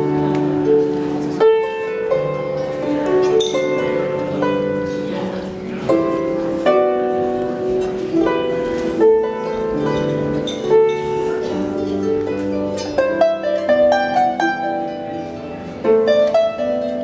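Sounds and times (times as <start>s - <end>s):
solo harp melody: 0.0s - 17.0s.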